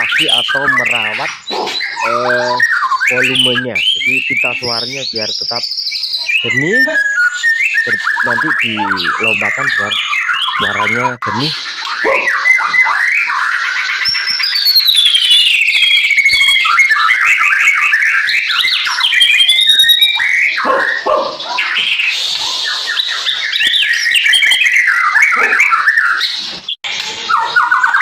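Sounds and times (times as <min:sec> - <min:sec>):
bird singing whistles and trills: 0:00.0 - 0:28.0.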